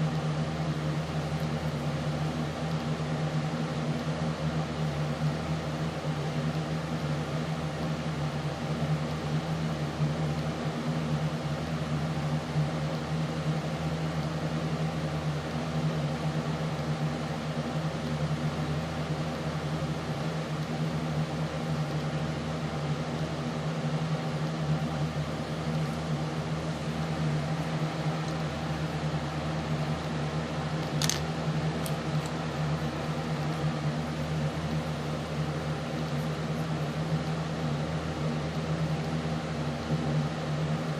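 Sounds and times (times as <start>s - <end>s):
low hum with hiss: 0.0s - 40.9s.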